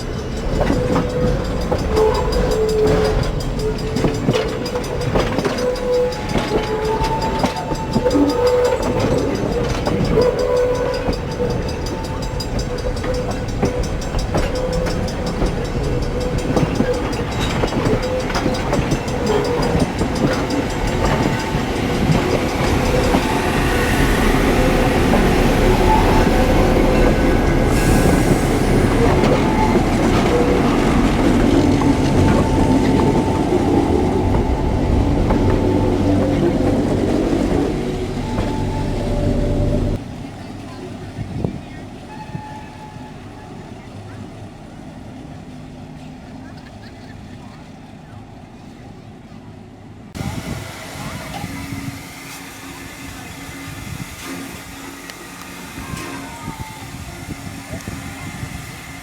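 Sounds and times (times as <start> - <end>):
train wheels clickety-clack: 0.0 - 48.2, 50.1 - 59.0.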